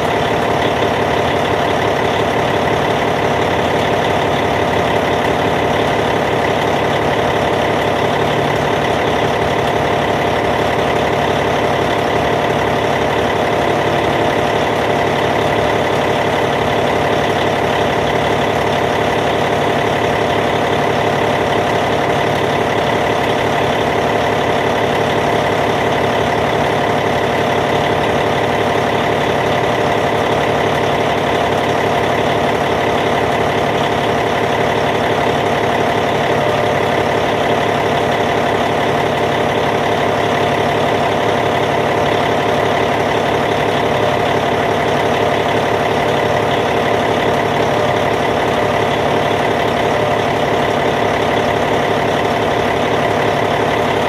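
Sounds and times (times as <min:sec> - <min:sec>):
bulldozer diesel engine idling: 0:00.0 - 0:54.0.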